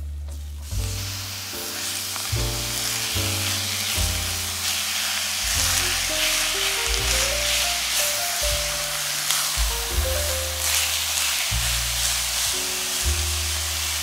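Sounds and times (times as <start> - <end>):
background music with bass: 0.0 - 14.0
meat sizzling in a frying pan: 0.8 - 14.0
spatula pressing meat: 1.8 - 14.0.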